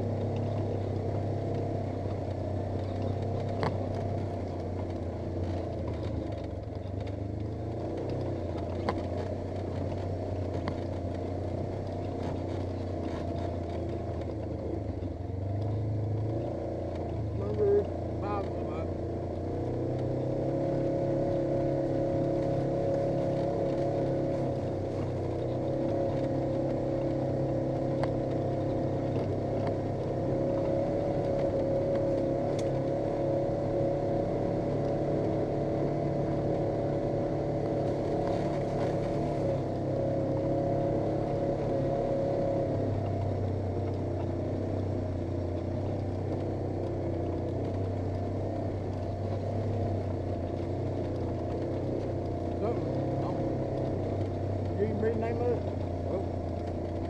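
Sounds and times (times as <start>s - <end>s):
high engine whine: 0.0s - 57.0s
vehicle engine droning: 0.0s - 57.0s.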